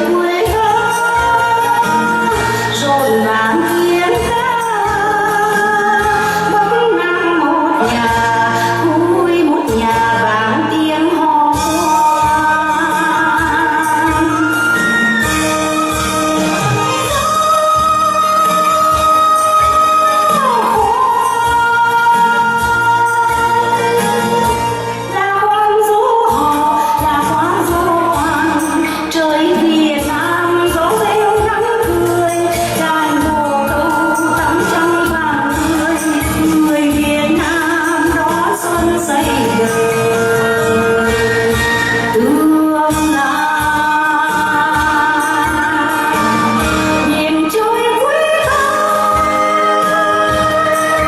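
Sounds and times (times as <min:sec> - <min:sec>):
instrumental accompaniment: 0:00.0 - 0:51.0
person singing: 0:00.0 - 0:51.0.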